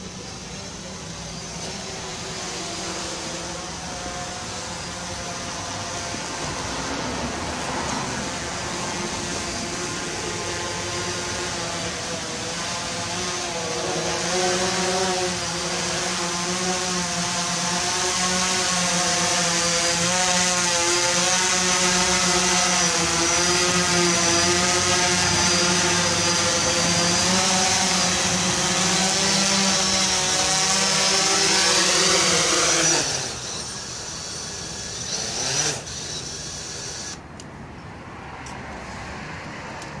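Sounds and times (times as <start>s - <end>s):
drone motors buzzing: 0.0s - 37.2s.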